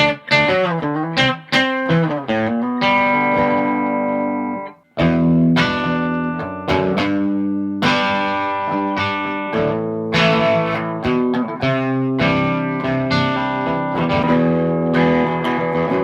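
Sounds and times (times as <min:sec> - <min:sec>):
electric guitar chords ringing: 0:00.0 - 0:16.0.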